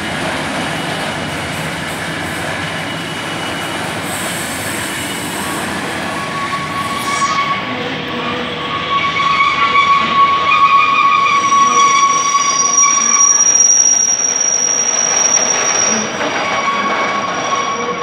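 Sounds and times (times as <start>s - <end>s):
rumble of train wheels: 0.0s - 6.9s, 7.7s - 18.0s
train wheels squealing: 0.7s - 18.0s.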